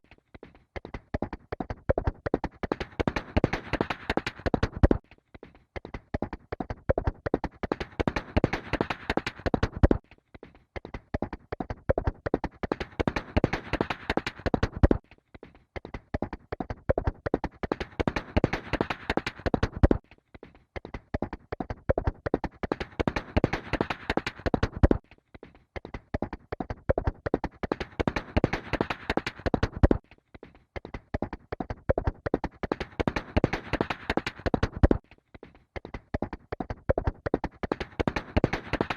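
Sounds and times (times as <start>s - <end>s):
horse hoofbeats galloping: 0.0s - 15.1s, 15.8s - 25.1s, 25.8s - 38.9s.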